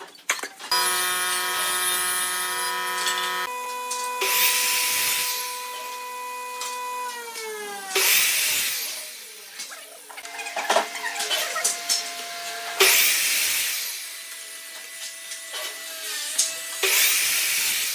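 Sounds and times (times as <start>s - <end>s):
mitre saw motor whining: 0.7s - 17.9s
saw blade cutting wood: 0.7s - 17.9s.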